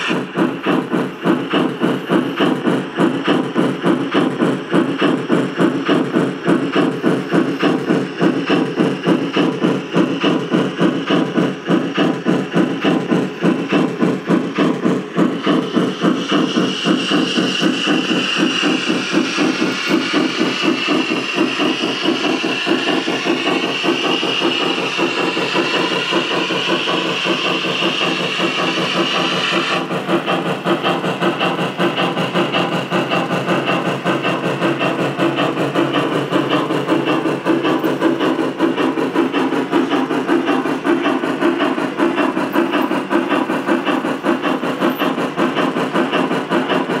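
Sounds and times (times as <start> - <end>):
model steam locomotive chuffing: 0.0 - 47.0
steam hiss: 0.0 - 47.0.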